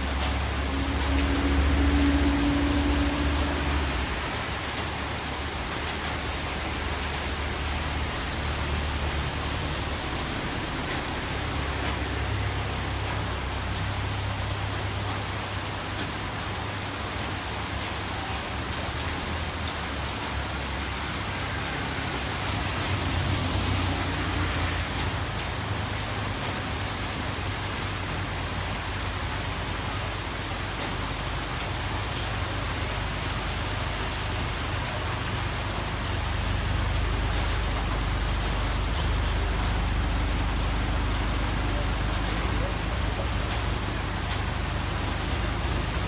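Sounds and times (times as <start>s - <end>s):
rain falling: 0.0s - 46.0s.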